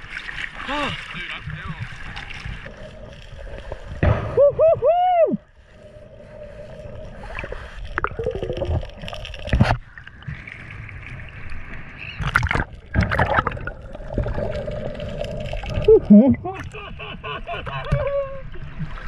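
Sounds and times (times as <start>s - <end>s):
water splashes: 0.0s - 4.5s, 5.8s - 19.0s.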